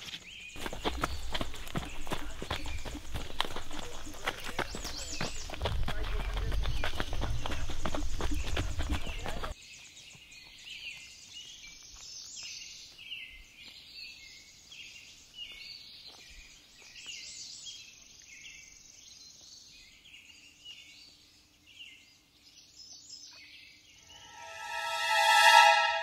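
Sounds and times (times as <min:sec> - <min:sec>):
birds chirping: 0:00.1 - 0:22.6.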